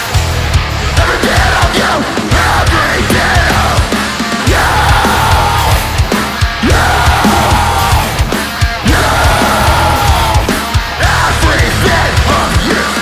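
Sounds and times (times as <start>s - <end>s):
heavy distorted band music: 0.0s - 13.0s
vocalist shouting: 1.0s - 13.0s.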